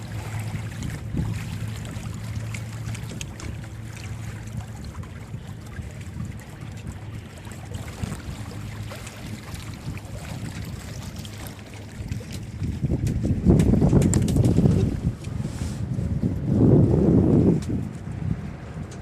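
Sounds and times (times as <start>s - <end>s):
steady low hum: 0.0s - 19.0s
water slapping against hull: 0.0s - 19.0s
wind buffeting microphone: 0.0s - 19.0s.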